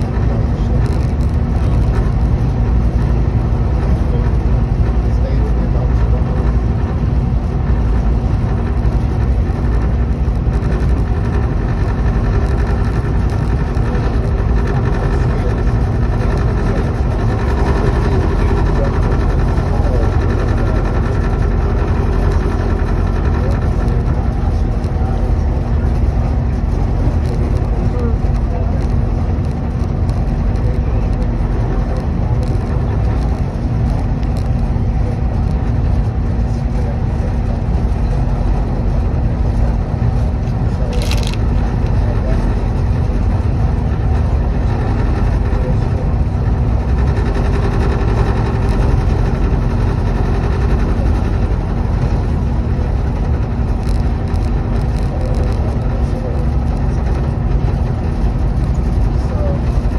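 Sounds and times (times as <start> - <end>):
faint hum: 0.0 - 59.9
train rumbling: 0.0 - 59.9.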